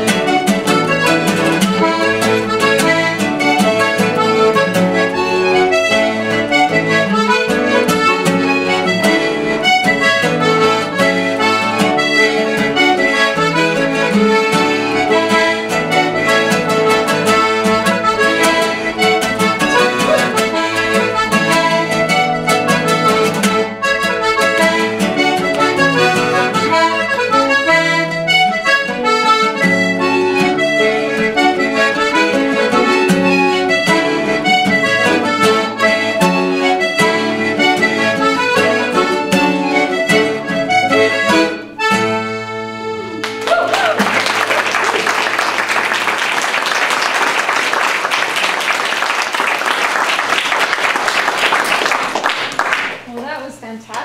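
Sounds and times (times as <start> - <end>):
strummed acoustic guitar: 0.0 - 43.4
button accordion dance tune: 0.0 - 53.2.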